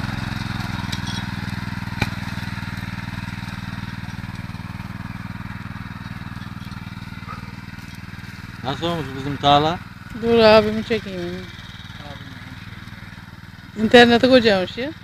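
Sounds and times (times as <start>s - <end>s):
motor hoe engine running: 0.0s - 15.0s.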